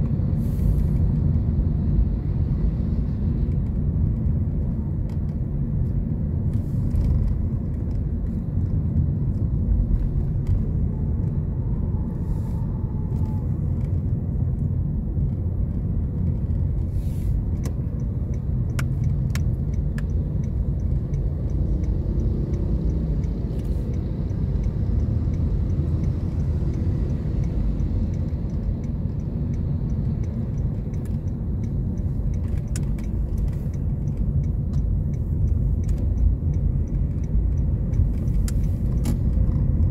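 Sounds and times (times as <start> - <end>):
engine and road noise: 0.0 - 39.9.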